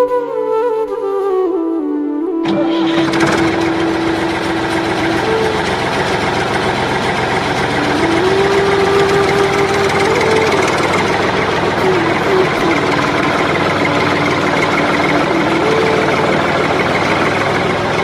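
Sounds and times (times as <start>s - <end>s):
small tractor engine idling: 2.4s - 18.0s.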